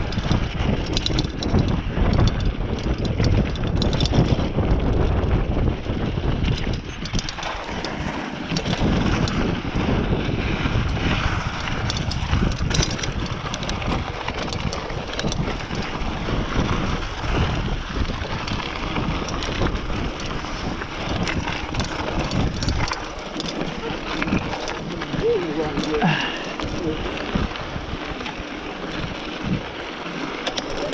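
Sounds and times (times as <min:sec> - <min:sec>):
bike rattling over bumps: 0:00.0 - 0:30.9
tyres rolling on dirt: 0:00.0 - 0:30.9
wind buffeting microphone: 0:00.0 - 0:30.9.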